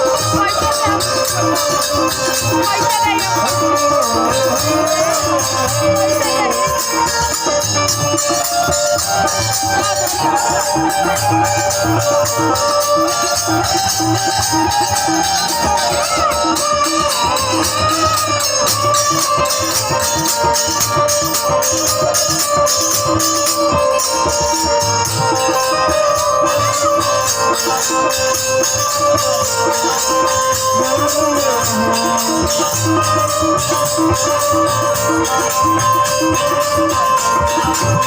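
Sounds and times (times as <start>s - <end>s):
held melody notes: 0.0s - 38.0s
jingling percussion: 0.0s - 38.0s.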